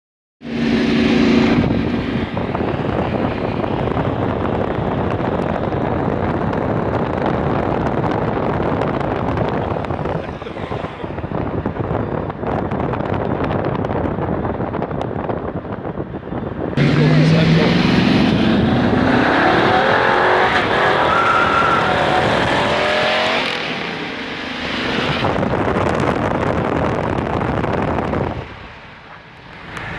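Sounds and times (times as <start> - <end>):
hot rod engine and exhaust: 0.4 - 29.9
wind and road noise: 0.4 - 29.9.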